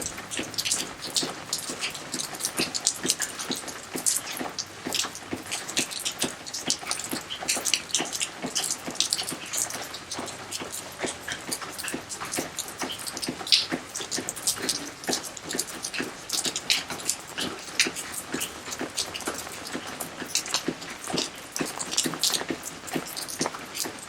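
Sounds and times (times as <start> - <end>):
rain pattering and splashing: 0.0 - 24.0.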